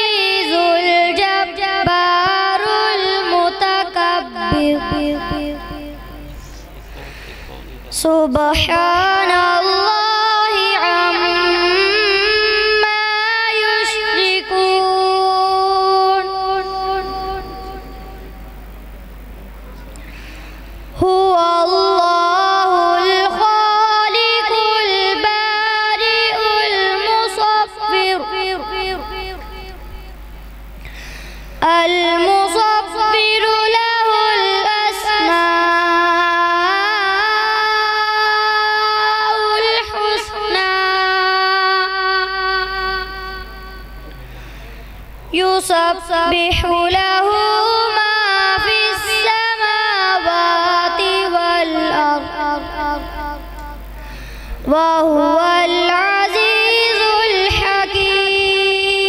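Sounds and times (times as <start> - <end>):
boy chanting melodically: 0.0 - 18.6, 20.0 - 30.1, 30.8 - 44.6, 45.3 - 59.0.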